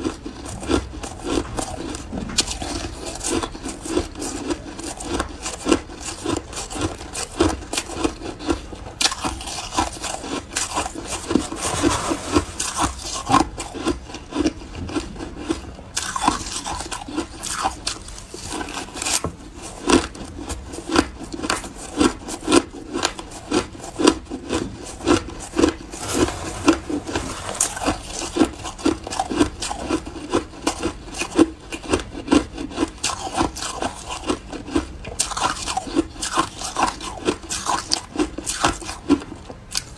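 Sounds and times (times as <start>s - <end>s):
chewing shaved ice: 0.0s - 39.9s.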